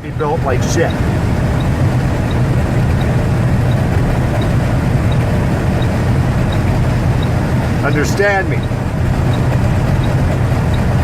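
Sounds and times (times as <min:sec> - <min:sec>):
diesel truck engine rumble: 0:00.0 - 0:11.0
road noise: 0:00.0 - 0:11.0
faint ticking: 0:00.6 - 0:11.0.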